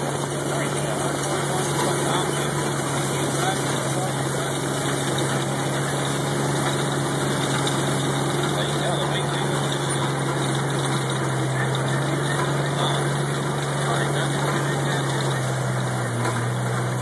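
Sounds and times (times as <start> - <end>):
tractor diesel engine drone: 0.0 - 17.0.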